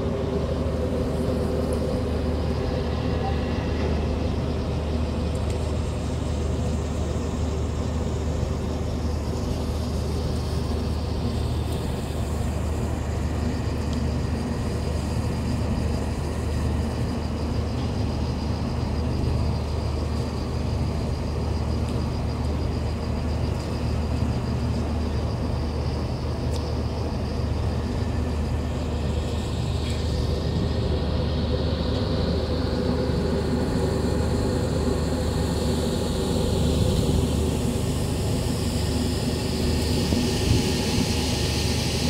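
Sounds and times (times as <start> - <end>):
boat engine droning: 0.0 - 42.0
faint high whine: 0.0 - 42.0.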